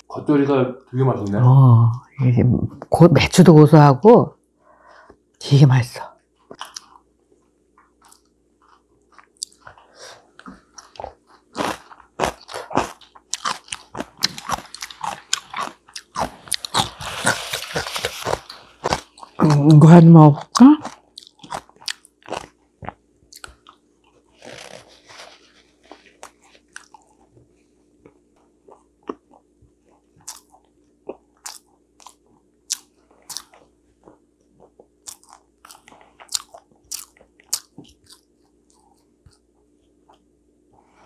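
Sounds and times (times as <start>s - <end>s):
person chewing crunchy food: 6.3s - 40.7s.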